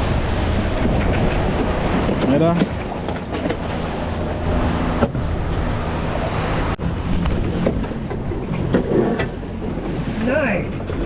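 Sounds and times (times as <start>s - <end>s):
boat engine humming: 0.0s - 11.0s
water rushing past boat: 0.0s - 11.0s
wind buffeting microphone: 0.0s - 11.0s.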